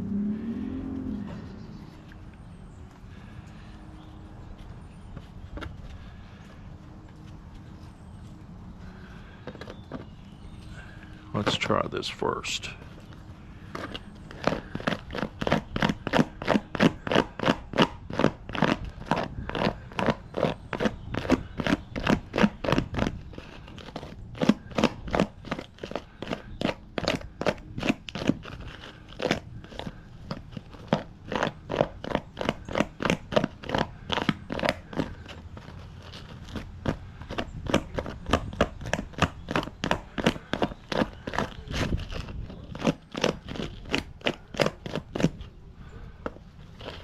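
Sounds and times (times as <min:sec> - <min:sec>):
scraping chicken hide: 0:08.9 - 0:47.0.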